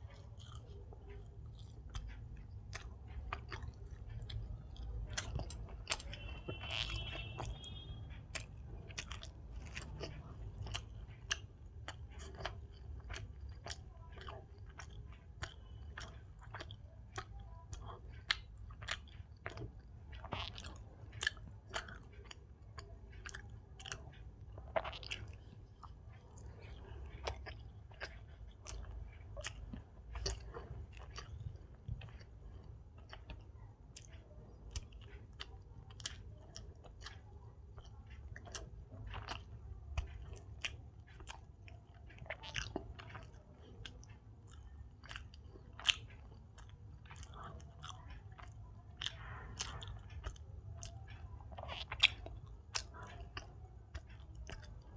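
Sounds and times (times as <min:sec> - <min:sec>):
chewing with mouth smacks: 0:00.0 - 0:54.9.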